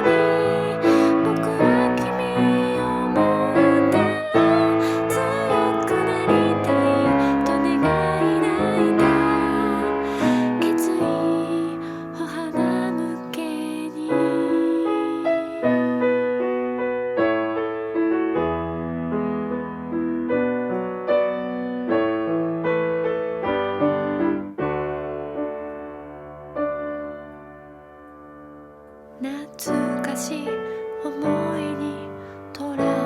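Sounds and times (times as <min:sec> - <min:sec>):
slow piano chords: 0:00.0 - 0:33.0.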